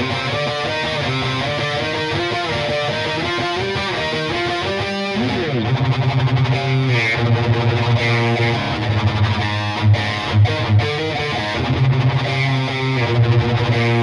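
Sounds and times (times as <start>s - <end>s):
distorted electric guitar riff: 0.0s - 14.0s.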